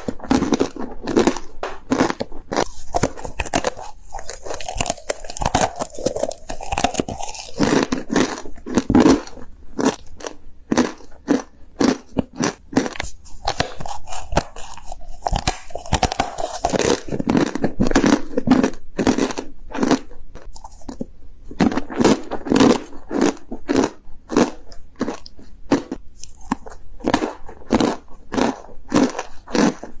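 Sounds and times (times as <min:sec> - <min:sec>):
crunching and chewing: 0:00.0 - 0:30.0.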